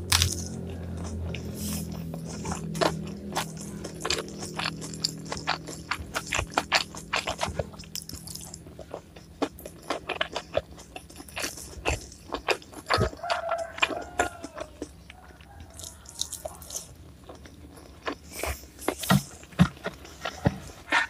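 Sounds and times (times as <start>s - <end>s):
crunchy vegetable chewing: 0.0s - 21.0s.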